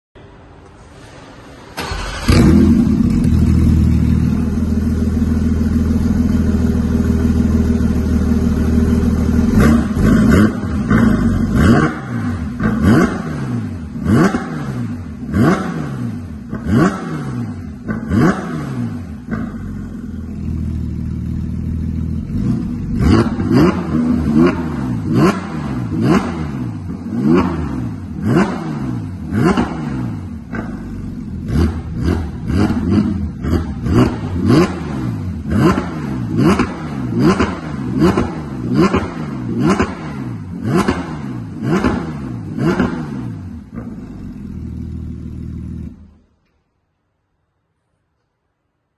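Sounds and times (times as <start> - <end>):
sports car engine idling and revving: 1.8 - 46.5.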